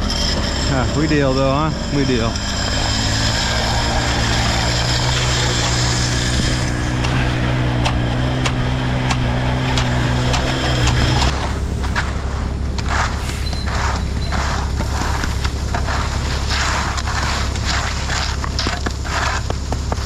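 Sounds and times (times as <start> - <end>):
high whine: 0.0 - 17.8
motor engine running: 0.0 - 20.0.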